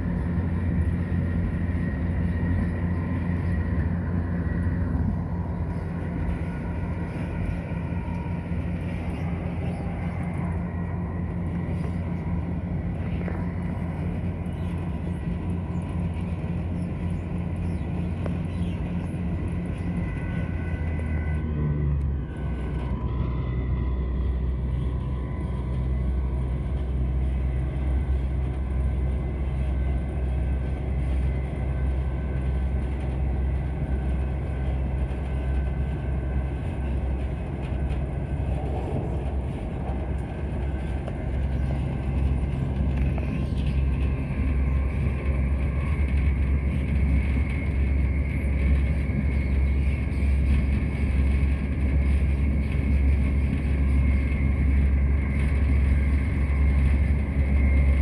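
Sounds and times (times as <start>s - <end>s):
diesel engine drone: 0.0s - 58.0s
steady high whine: 0.0s - 58.0s
wheel and track rumble: 0.0s - 58.0s.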